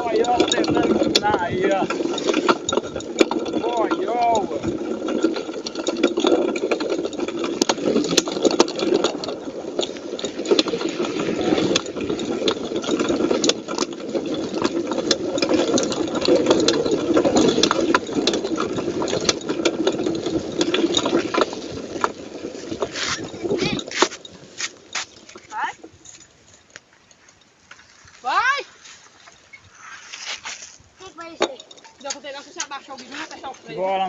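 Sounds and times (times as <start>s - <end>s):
rattles and sharp knocks: 0.0s - 27.9s, 31.0s - 34.0s
bike rumbling over dirt trail: 0.0s - 34.0s.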